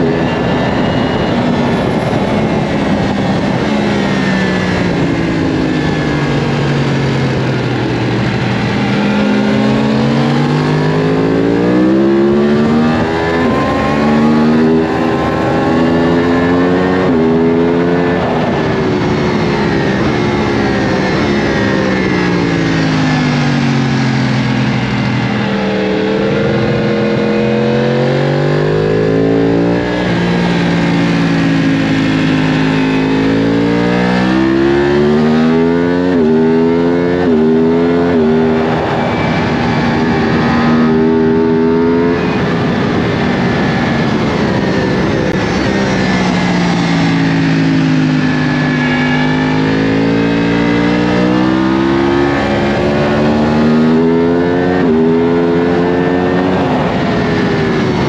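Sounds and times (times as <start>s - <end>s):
motorcycle engine revving: 0.0s - 58.0s
wind noise: 0.0s - 58.0s.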